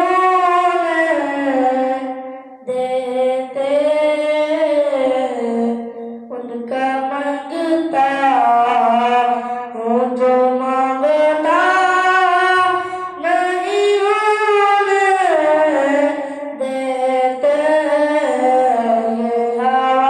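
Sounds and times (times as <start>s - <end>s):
boy singing unaccompanied: 0.0s - 20.0s.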